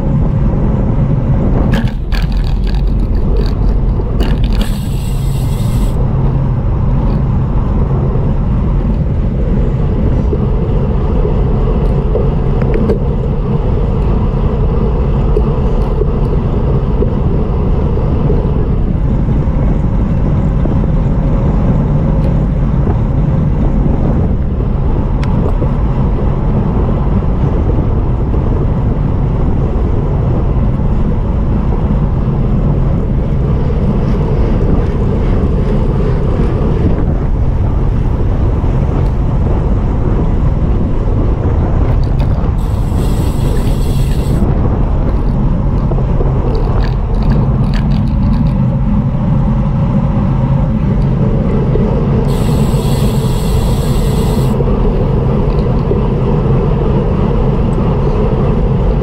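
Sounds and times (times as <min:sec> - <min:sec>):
road and tyre rumble: 0:00.0 - 0:59.0
wind rush over microphone: 0:00.0 - 0:59.0.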